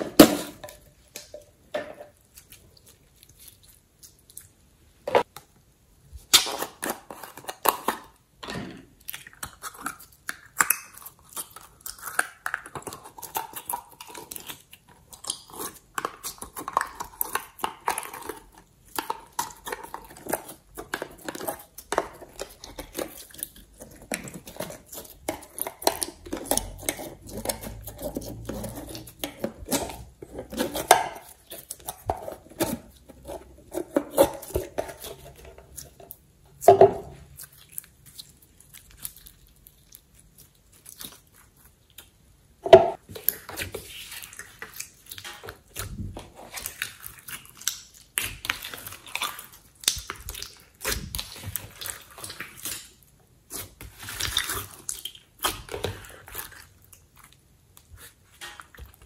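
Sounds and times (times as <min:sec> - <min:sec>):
slime clicking and squelching: 0:08.9 - 0:59.0.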